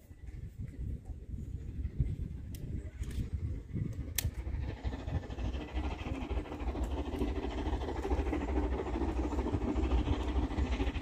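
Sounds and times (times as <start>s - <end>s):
approaching train rumble: 0.0s - 11.0s.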